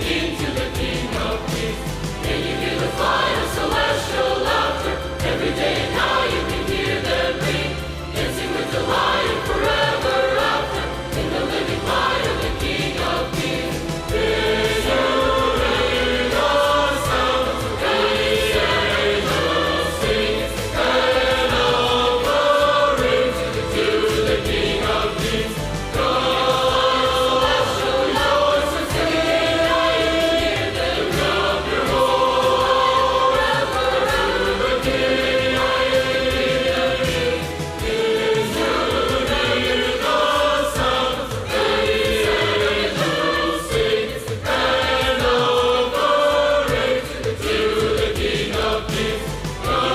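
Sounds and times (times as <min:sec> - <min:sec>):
church choir singing: 0:00.0 - 0:49.9
instrumental accompaniment: 0:00.0 - 0:49.9.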